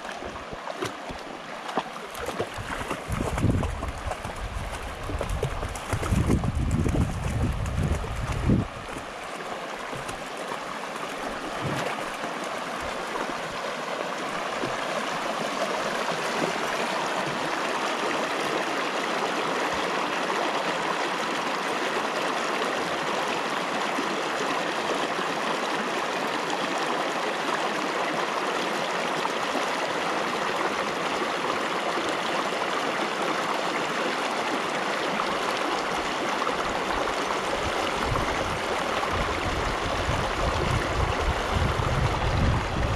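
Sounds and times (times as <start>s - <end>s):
river water flowing over rocks: 0.0s - 42.9s.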